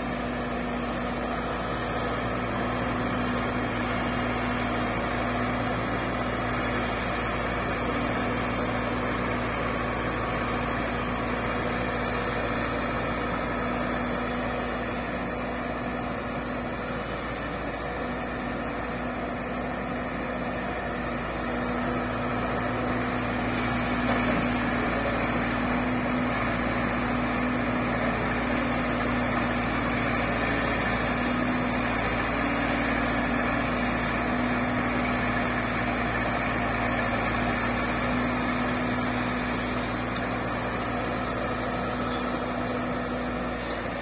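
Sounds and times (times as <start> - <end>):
excavator diesel engines humming: 0.0 - 44.0.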